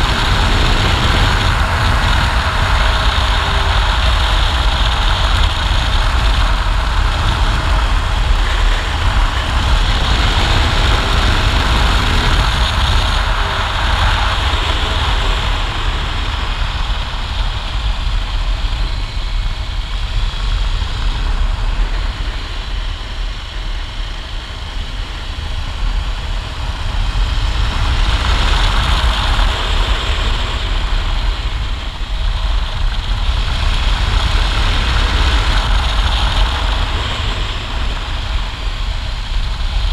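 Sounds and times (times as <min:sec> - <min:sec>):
motorcycle engine: 0:00.0 - 0:39.9
wind rushing over microphone: 0:00.0 - 0:39.9.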